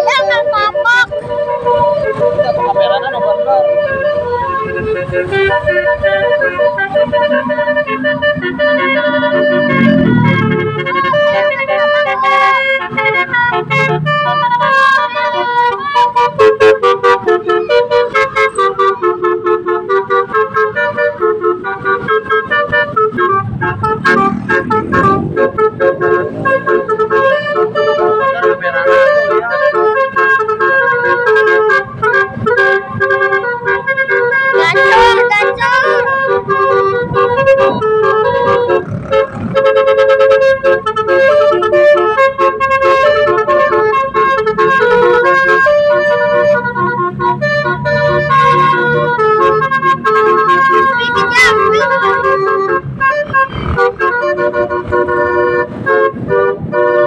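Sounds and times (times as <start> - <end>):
musical horn playing a tune: 0.0 - 57.0.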